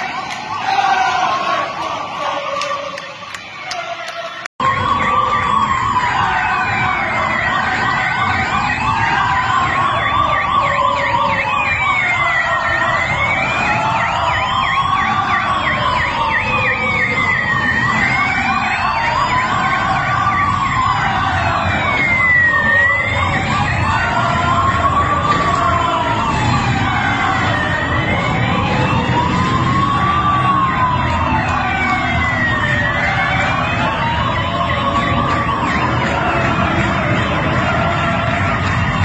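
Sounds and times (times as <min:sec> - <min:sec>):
siren wailing: 0:00.0 - 0:39.0
siren yelping: 0:00.0 - 0:39.0.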